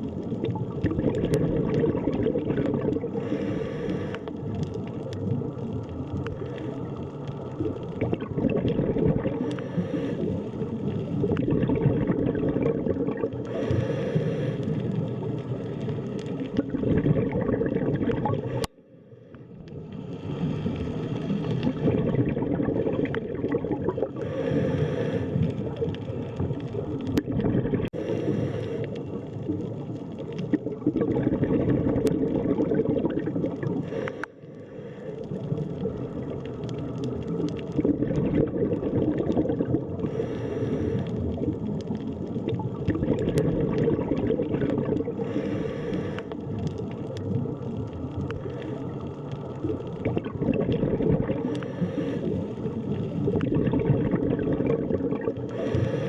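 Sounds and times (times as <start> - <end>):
underwater rush and gurgle: 0.0 - 56.0.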